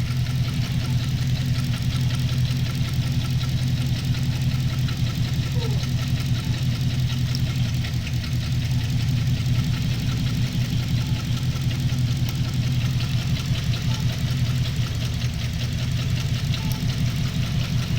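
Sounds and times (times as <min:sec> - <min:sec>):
engine idling with misfire: 0:00.0 - 0:17.9
fast engine ticking: 0:00.0 - 0:17.9.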